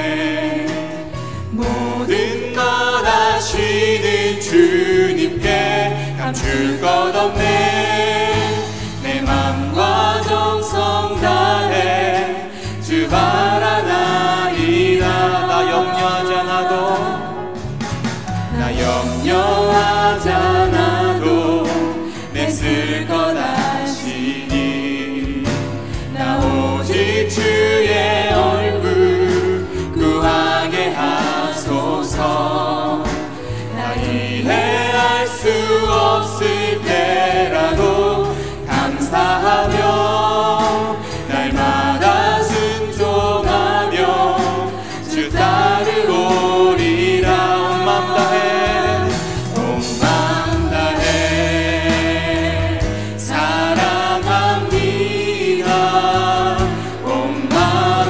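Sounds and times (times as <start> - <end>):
acoustic guitar: 0.0 - 58.0
bass guitar: 0.0 - 58.0
drums: 0.0 - 58.0
keyboard: 0.0 - 58.0
voices singing together: 0.0 - 58.0.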